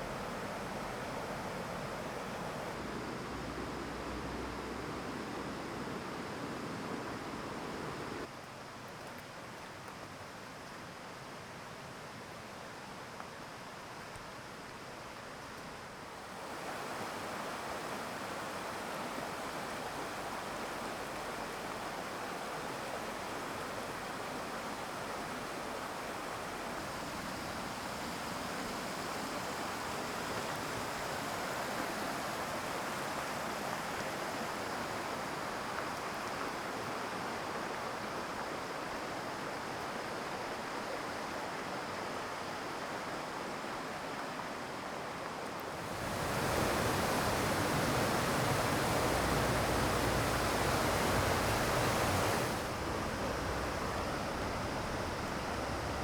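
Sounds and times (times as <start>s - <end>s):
stream water rushing: 0.0s - 8.3s, 15.9s - 56.0s.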